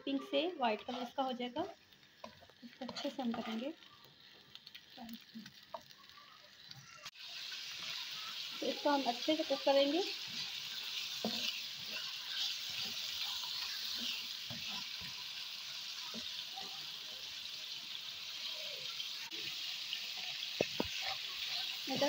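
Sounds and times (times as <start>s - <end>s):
chicken sizzling in oil: 0.1s - 22.0s.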